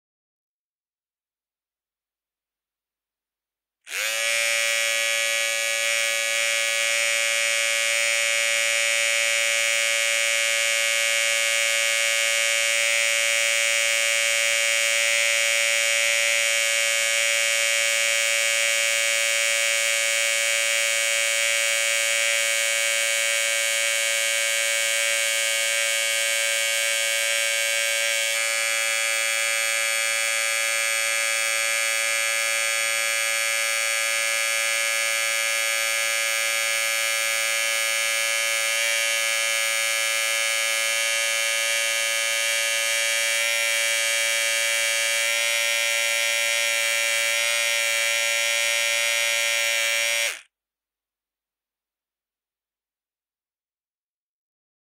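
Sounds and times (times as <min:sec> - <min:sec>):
electric hair clippers buzzing: 0:03.9 - 0:50.5.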